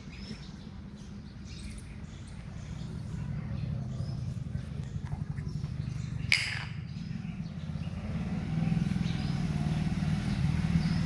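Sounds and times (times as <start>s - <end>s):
low pulsing engine rumble: 0.7s - 11.0s.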